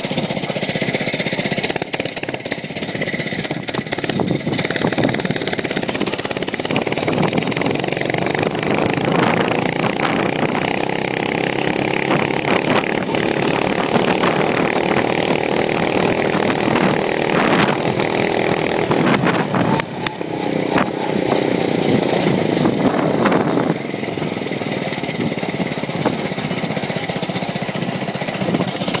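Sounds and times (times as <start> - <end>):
mini bike engine revving: 0.0 - 29.0.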